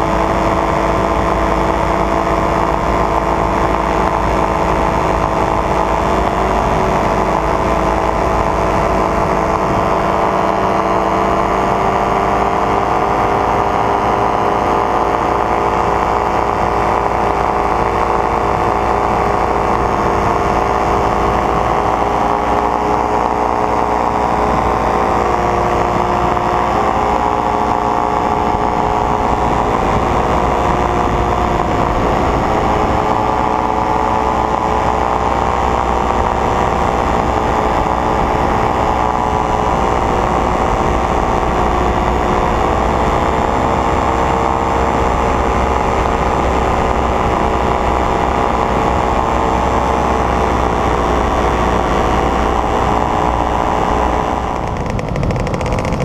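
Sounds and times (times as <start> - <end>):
paramotor engine and propeller: 0.0 - 56.0.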